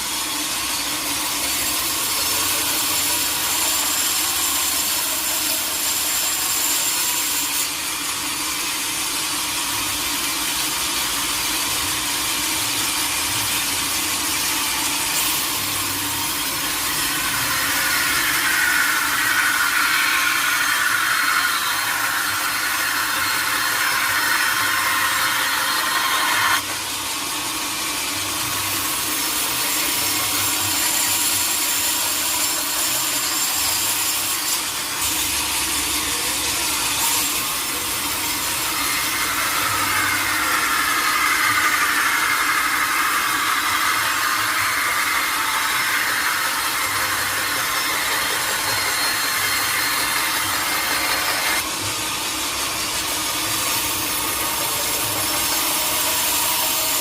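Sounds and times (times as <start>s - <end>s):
saw cutting log: 0.0s - 57.0s.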